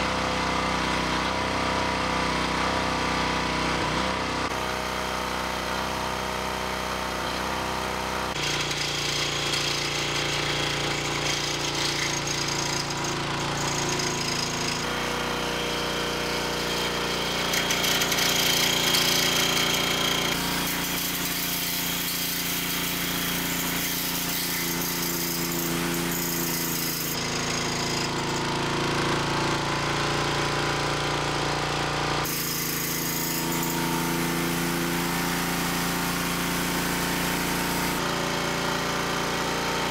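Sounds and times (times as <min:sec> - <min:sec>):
small gas engines running: 0:00.0 - 0:39.9.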